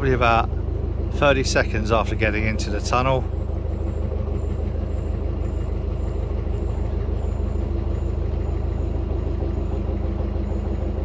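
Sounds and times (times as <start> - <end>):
diesel boat engine running: 0.0 - 11.0.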